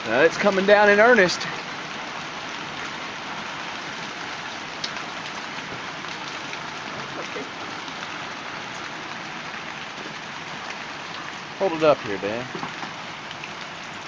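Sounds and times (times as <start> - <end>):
hail pelting surfaces: 0.0 - 14.0.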